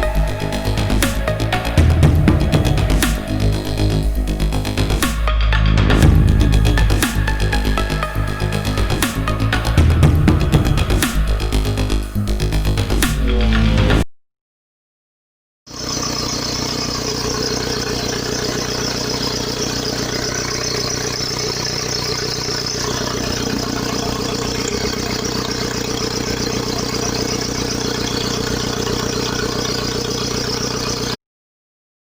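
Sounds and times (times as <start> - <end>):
diesel engine idling: 0.0 - 13.0, 15.8 - 31.2.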